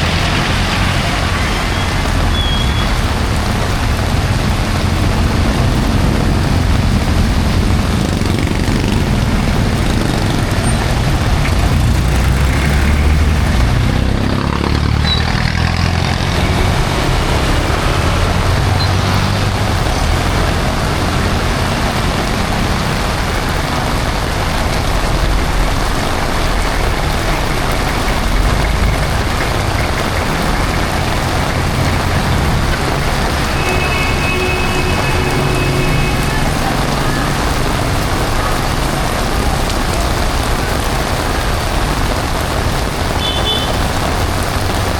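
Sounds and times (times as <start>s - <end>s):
heavy rain falling: 0.0s - 44.9s
road traffic rumble: 0.0s - 44.9s
trucks passing: 0.0s - 44.9s.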